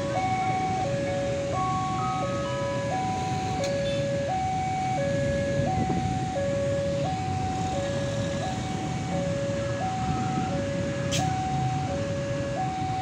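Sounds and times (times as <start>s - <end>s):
motorbike traffic rumble: 0.0s - 13.0s.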